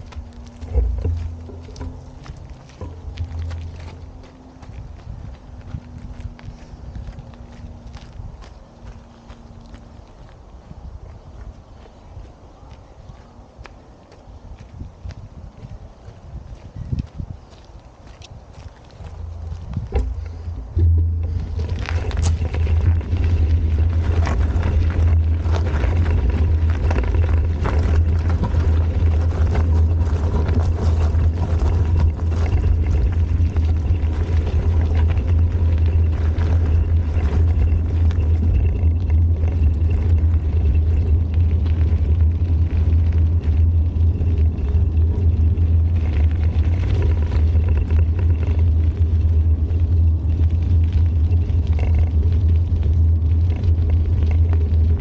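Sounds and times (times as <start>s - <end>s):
bicycle clicks and rattles: 0.0s - 12.0s, 14.0s - 55.0s
bicycle tyres rolling on path: 0.0s - 55.0s
wind on microphone: 0.0s - 55.0s.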